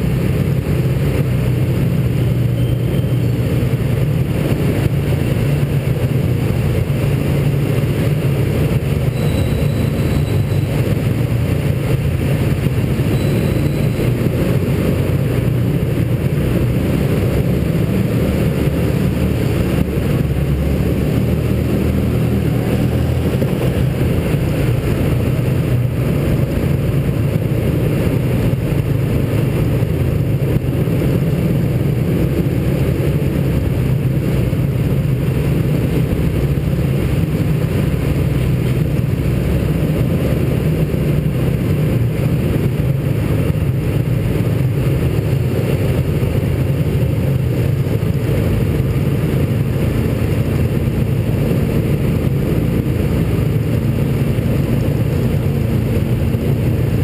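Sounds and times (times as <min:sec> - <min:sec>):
small car engine running: 0:00.0 - 0:57.0.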